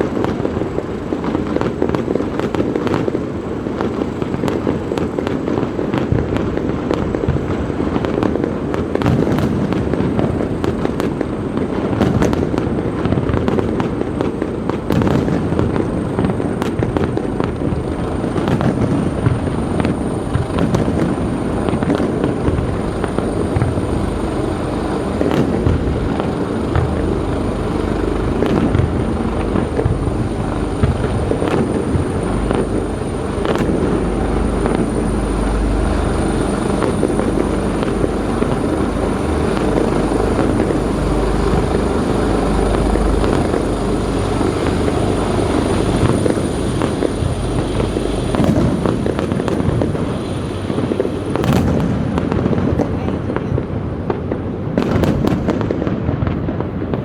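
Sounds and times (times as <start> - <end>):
fireworks bangs and crackles: 0.0 - 57.0
deep rumble: 6.1 - 57.0.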